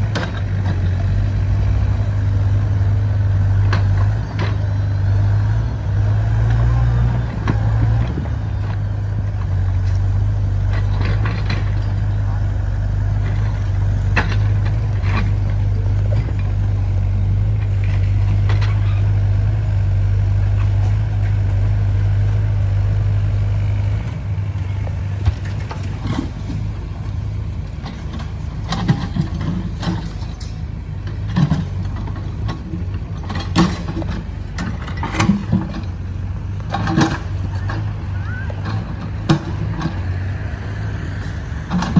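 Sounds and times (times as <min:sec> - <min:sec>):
diesel engine low drone: 0:00.0 - 0:41.9.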